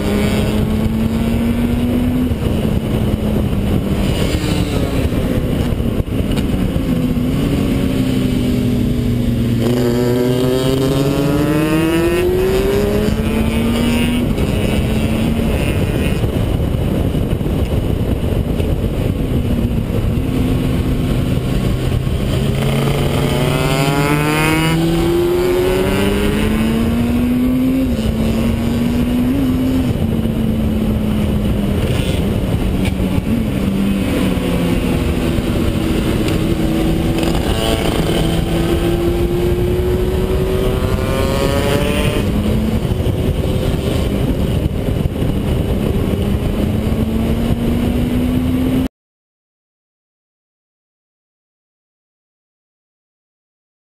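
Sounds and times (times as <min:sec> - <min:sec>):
motorcycle engine accelerating: 0:00.0 - 0:48.9
wind rush: 0:00.0 - 0:48.9.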